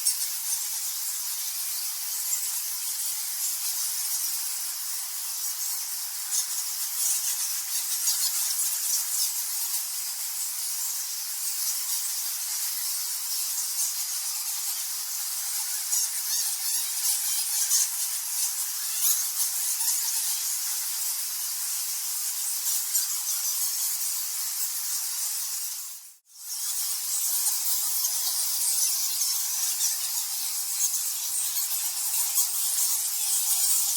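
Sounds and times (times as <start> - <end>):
bats squeaking and chittering: 0.0 - 33.9.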